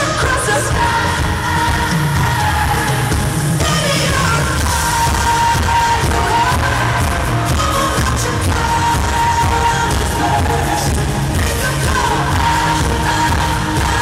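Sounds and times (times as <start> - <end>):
live pop band with drums: 0.0 - 14.0
woman singing: 0.0 - 14.0.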